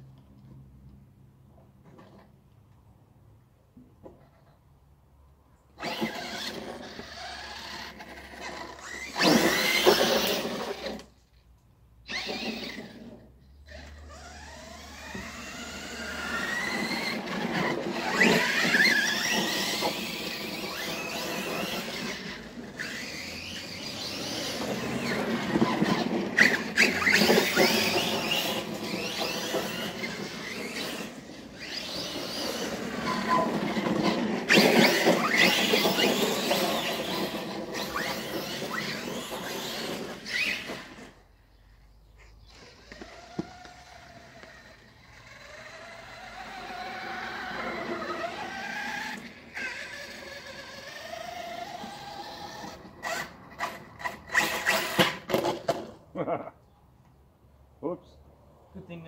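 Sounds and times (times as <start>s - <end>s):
electric motors whining: 5.8s - 11.2s, 12.0s - 41.5s, 42.4s - 56.0s.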